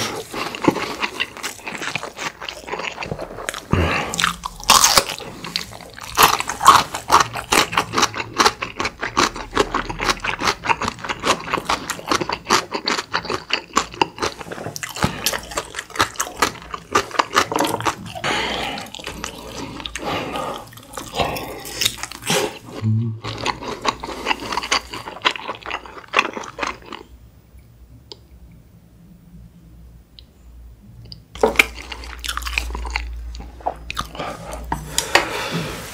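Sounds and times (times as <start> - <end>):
wet chewing and smacking: 0.0 - 27.1, 31.1 - 35.3.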